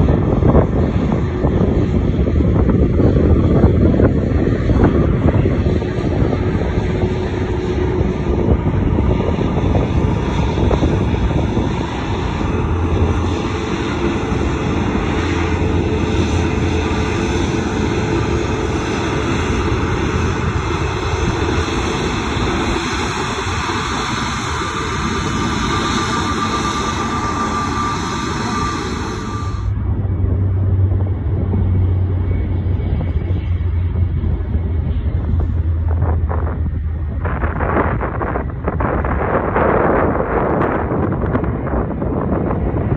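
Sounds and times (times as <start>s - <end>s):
jet engines rumbling and hissing: 0.0s - 42.9s
thin engine whine: 0.0s - 42.9s.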